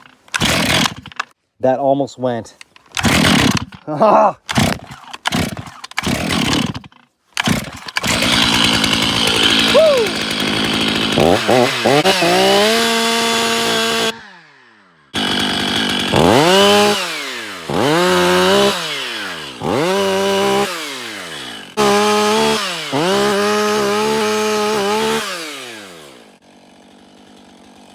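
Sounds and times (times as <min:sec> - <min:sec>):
chainsaw revving: 0:00.3 - 0:01.2, 0:03.0 - 0:03.8, 0:04.5 - 0:27.9.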